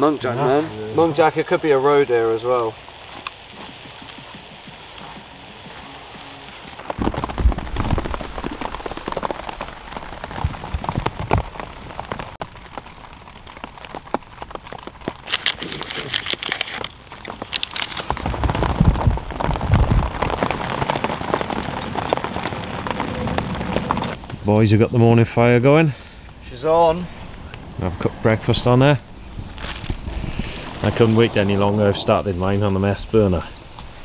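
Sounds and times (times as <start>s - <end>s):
rain pattering on tent canvas: 0.0s - 34.0s.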